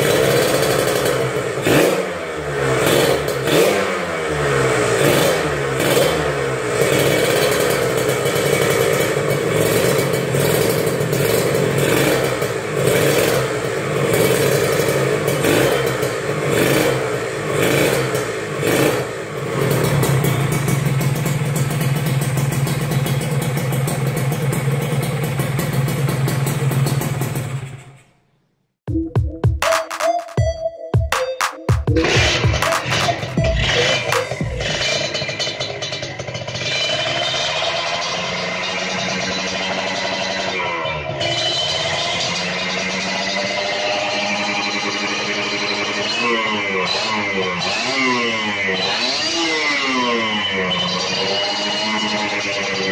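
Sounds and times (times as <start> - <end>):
two-stroke engine revving: 0.0 - 28.0, 31.9 - 52.9
motorcycle engine idling: 0.0 - 28.2, 31.9 - 52.9.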